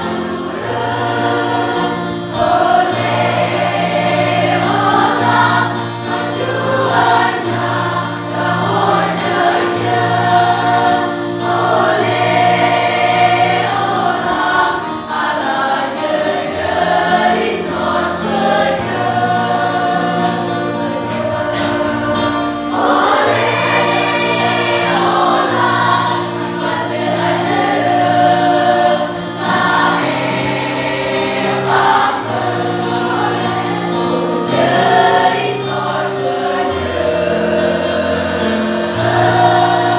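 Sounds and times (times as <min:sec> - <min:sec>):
choir singing in parts: 0:00.0 - 0:39.9.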